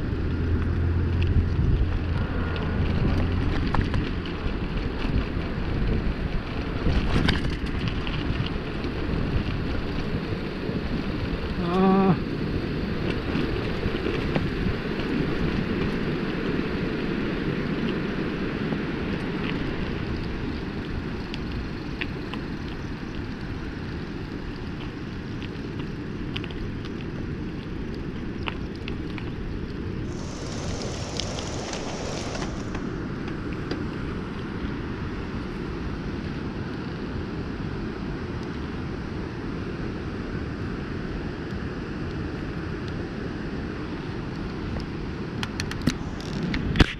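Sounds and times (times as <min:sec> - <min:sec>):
bike rolling over rough concrete: 0:00.0 - 0:38.8, 0:41.5 - 0:46.9
wind on microphone: 0:00.0 - 0:46.9.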